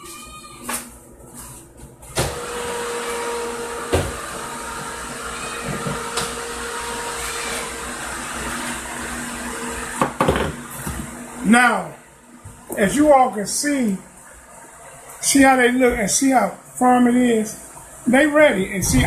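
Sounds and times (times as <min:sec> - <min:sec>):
fan whirring: 0:00.8 - 0:19.0.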